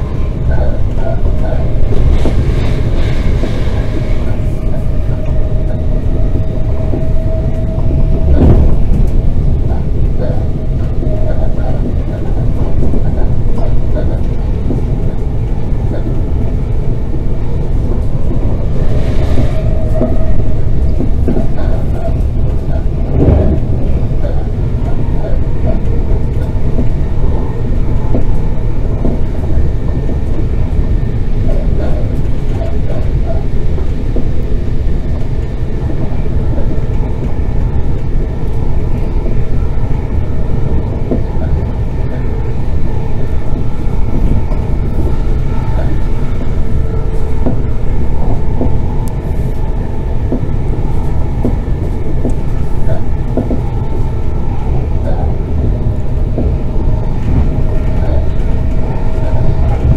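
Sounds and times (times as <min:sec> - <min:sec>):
electric train rumbling: 0:00.0 - 0:59.9
faint steady tones: 0:00.0 - 0:59.9.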